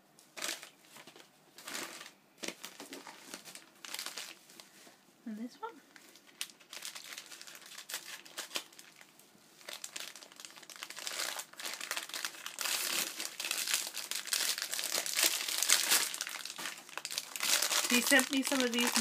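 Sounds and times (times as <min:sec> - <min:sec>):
packaging crinkling and tearing: 0:00.3 - 0:04.6, 0:06.0 - 0:19.0.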